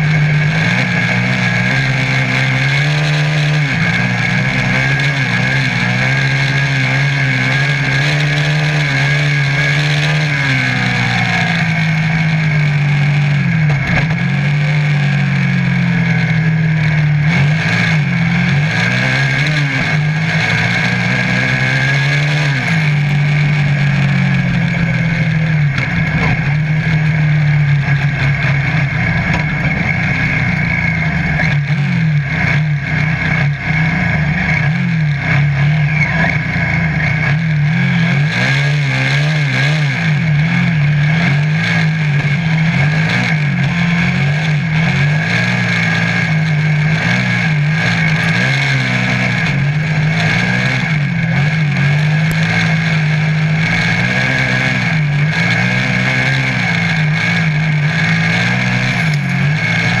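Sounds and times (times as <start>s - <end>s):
buggy engine running hard: 0.0s - 60.0s.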